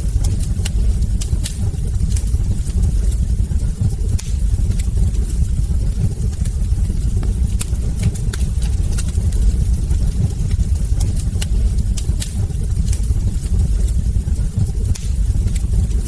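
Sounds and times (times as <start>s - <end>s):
fire rumbling: 0.0s - 16.0s
logs crackling and popping: 0.0s - 16.0s.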